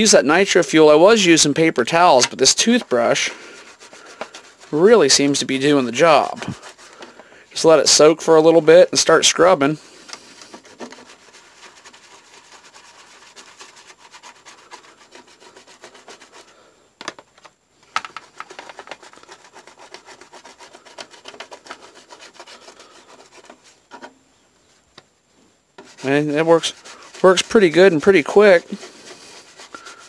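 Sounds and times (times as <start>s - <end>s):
toothbrush scrubbing plastic: 0.6s - 16.7s, 17.9s - 23.8s, 25.8s - 30.0s.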